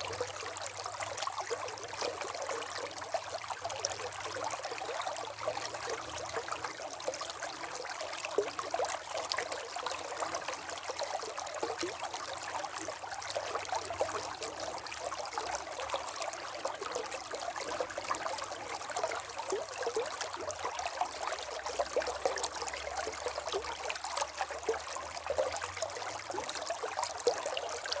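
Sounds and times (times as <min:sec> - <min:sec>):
stream babbling over stones: 0:00.0 - 0:28.0.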